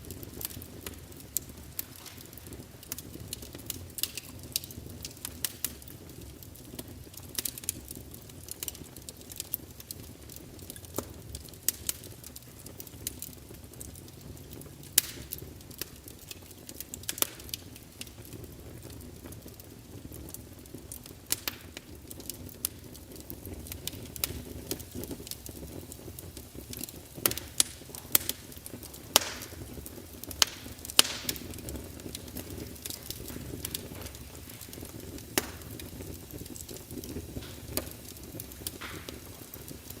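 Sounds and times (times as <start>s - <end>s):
fire crackling and popping: 0.0s - 40.0s
low rumble of flames: 0.0s - 40.0s.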